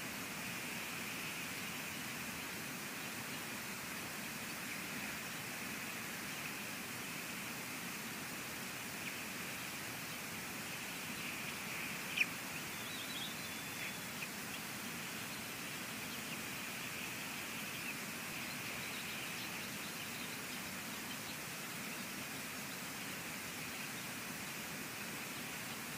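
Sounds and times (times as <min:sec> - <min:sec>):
rain hissing on microphone: 0:00.0 - 0:25.9
faint bird chirps: 0:00.2 - 0:25.9.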